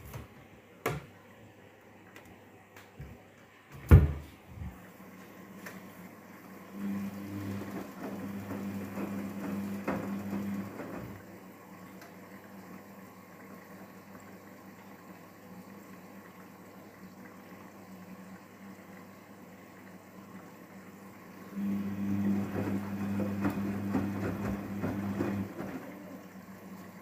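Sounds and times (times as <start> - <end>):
washing machine drum motor hum: 0.0 - 27.0.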